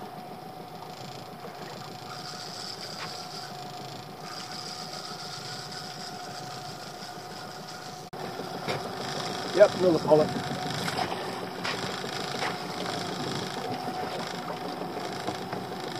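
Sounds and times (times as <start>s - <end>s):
fishing reel whirring: 0.0s - 15.9s
outboard motor idling: 0.0s - 15.9s.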